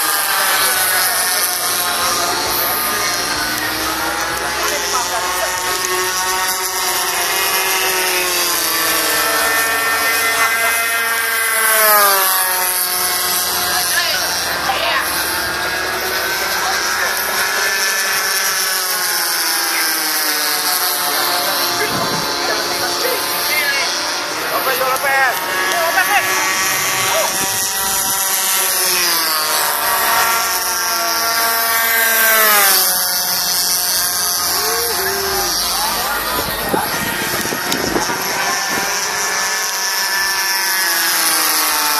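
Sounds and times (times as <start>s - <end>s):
model plane engines buzzing: 0.0s - 41.9s.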